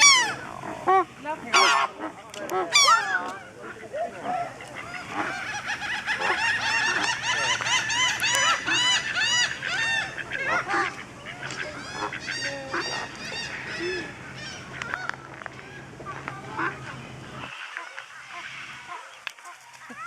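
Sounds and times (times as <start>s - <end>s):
flamingos honking: 0.0s - 20.0s.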